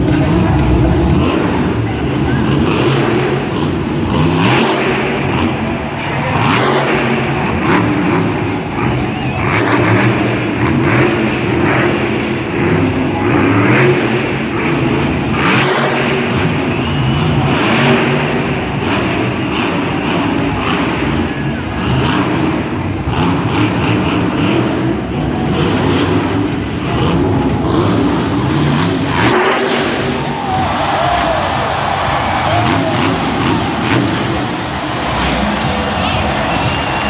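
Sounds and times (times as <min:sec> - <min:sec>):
sharp bursts of engine noise: 0:00.0 - 0:37.0
truck engine revving hard: 0:00.0 - 0:37.0.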